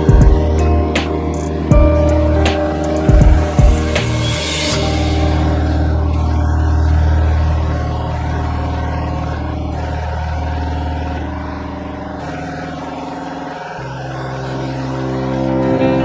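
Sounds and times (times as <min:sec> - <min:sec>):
background music with deep bass: 0:00.0 - 0:16.0.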